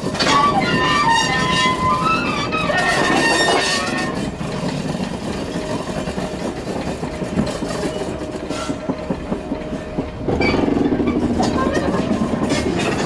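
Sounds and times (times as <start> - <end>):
rail joint clicks and knocks: 0.0 - 13.0
rattling train bodywork: 0.0 - 13.0
train wheels rumbling on track: 0.0 - 13.0.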